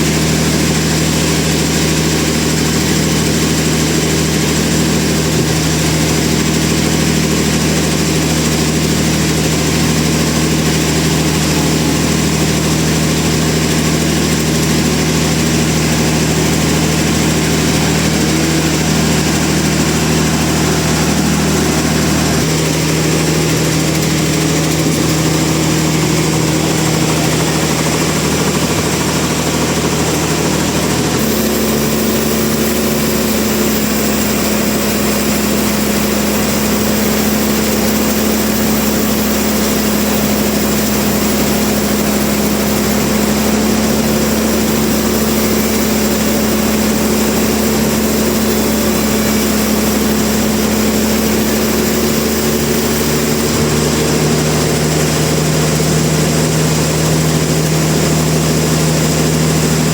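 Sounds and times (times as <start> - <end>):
sawmill machinery humming: 0.0 - 59.9.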